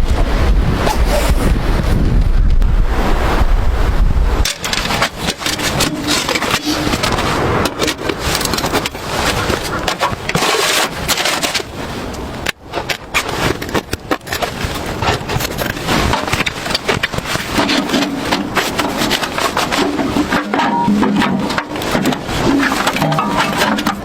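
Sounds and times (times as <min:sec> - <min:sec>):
tent setup scraping and clicking: 0:04.4 - 0:24.0.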